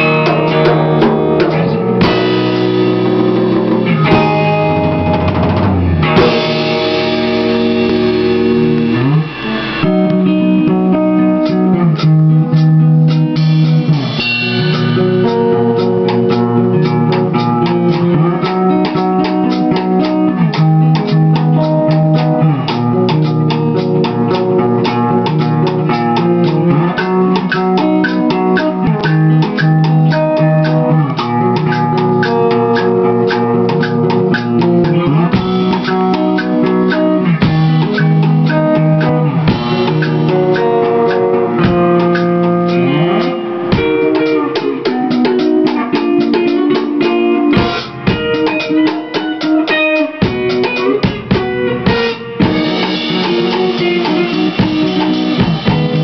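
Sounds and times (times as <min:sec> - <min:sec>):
distorted electric guitar riffing: 0:00.0 - 0:56.0
fast drumbeat: 0:00.0 - 0:56.0.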